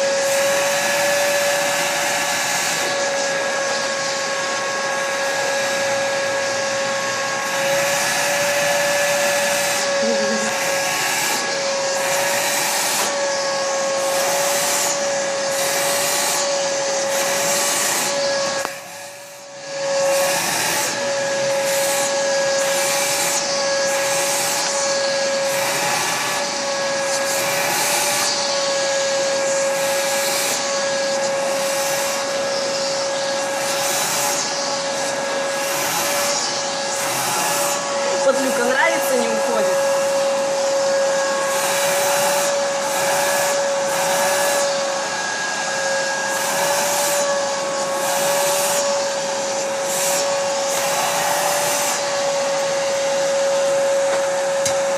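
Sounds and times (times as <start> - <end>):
vacuum cleaner motor hum: 0.0 - 54.9.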